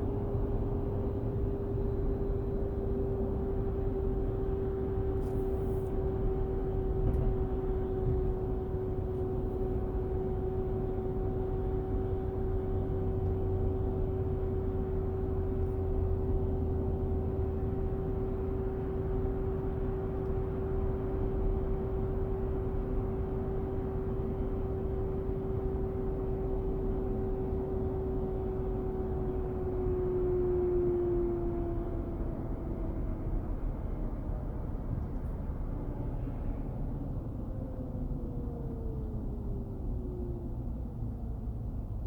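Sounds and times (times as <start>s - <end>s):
road rumble: 3.0s - 42.0s.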